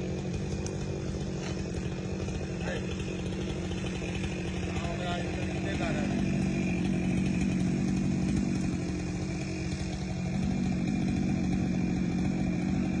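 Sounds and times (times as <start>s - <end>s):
chainsaw running: 0.0s - 13.0s.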